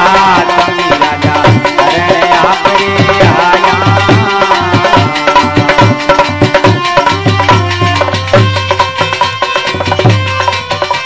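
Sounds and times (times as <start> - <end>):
devotional music: 0.0 - 11.0
hand drums beating: 0.0 - 11.0.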